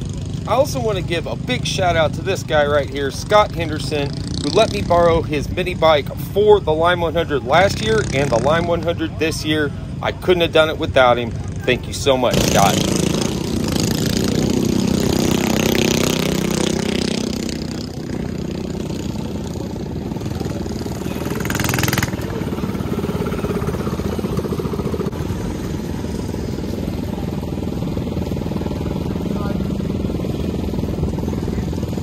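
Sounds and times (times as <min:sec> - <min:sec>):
mini bike engines idling: 0:00.0 - 0:32.0.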